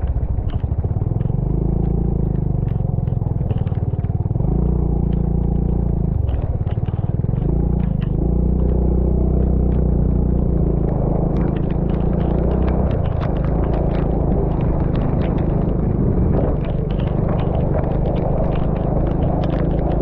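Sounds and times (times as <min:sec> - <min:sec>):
small knocks and rattles: 0:00.0 - 0:20.0
vehicle engine running: 0:00.0 - 0:20.0.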